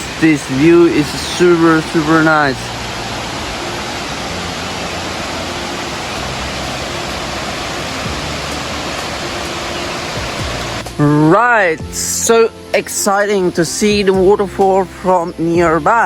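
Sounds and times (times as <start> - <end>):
waterfall roar: 0.0 - 16.0.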